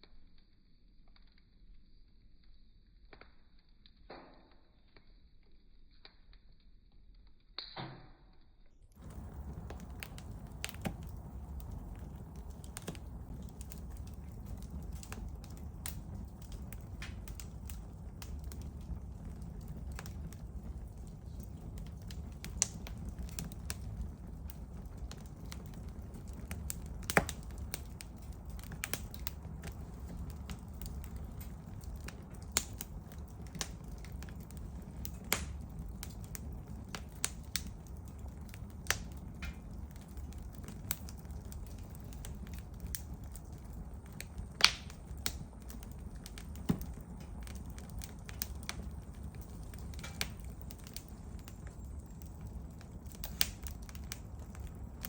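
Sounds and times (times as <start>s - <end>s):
campfire flames rumbling: 8.9s - 55.0s
firewood crackling and popping: 8.9s - 55.0s.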